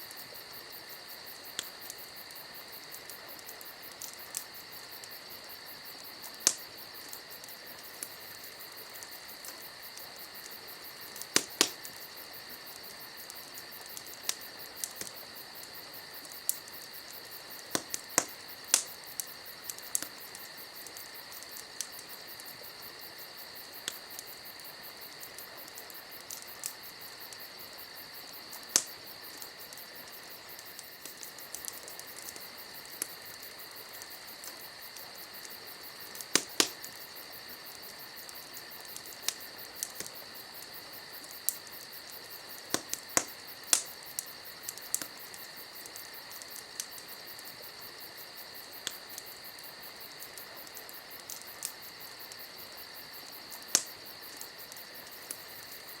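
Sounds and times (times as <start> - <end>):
crickets chirring: 0.0 - 56.0
campfire pops and cracks: 0.1 - 56.0.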